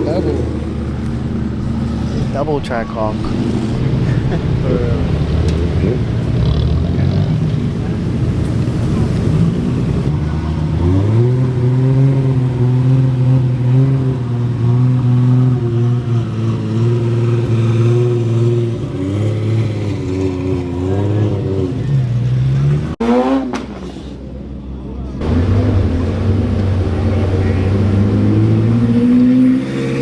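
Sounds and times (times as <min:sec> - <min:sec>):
car engine revving: 0:00.0 - 0:23.9, 0:25.2 - 0:30.0.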